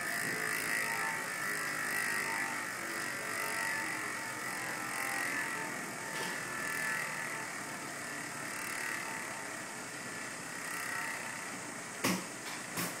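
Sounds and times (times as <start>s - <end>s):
bicycle hub freewheel buzz: 0.0s - 13.0s.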